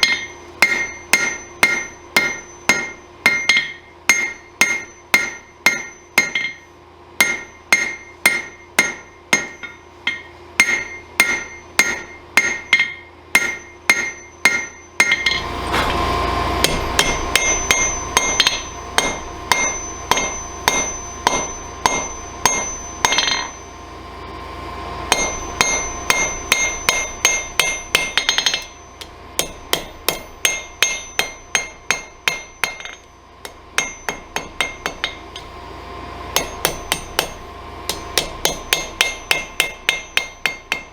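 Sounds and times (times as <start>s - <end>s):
hammer striking hot iron on anvil: 0.0s - 16.0s, 16.6s - 23.8s, 25.1s - 35.7s, 36.3s - 40.9s.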